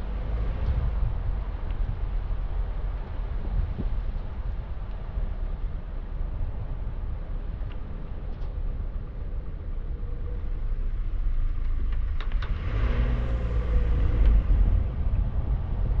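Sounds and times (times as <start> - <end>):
tyres and engine rumbling: 0.0 - 16.0
wind buffeting microphone: 0.0 - 16.0.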